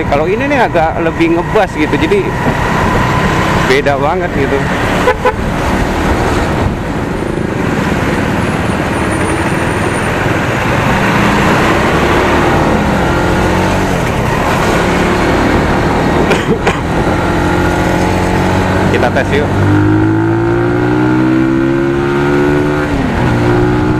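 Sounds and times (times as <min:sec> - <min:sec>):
wind and road noise: 0:00.0 - 0:23.9.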